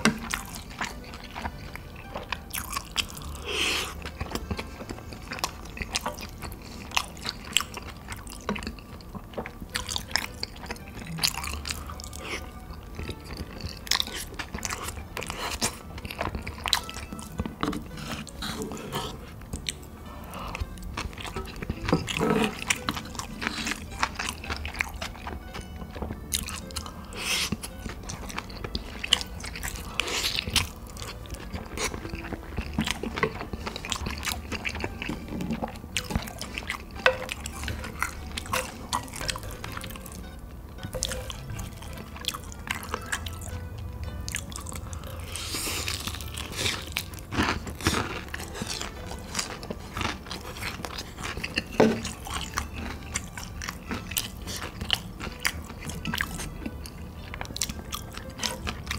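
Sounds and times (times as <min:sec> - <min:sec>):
person chewing and crunching food: 0:00.0 - 0:58.9
quiet background music: 0:00.0 - 0:58.9.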